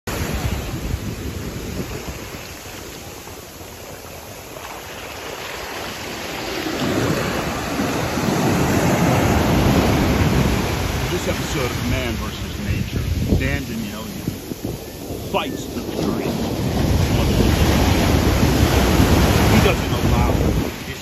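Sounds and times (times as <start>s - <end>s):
ocean surf breaking: 0.1s - 21.0s.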